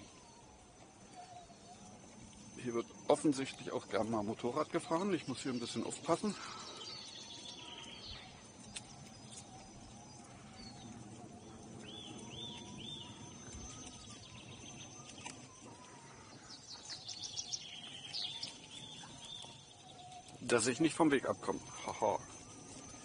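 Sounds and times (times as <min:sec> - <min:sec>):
bird chirping: 0:00.0 - 0:23.0
electric unicycle humming: 0:00.0 - 0:23.0.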